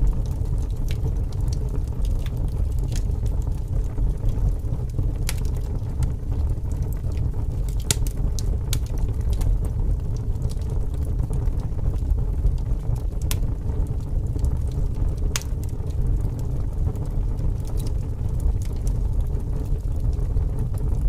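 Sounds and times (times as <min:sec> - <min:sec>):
campfire crackling and popping: 0:00.0 - 0:21.0
low rumble of wind: 0:00.0 - 0:21.0.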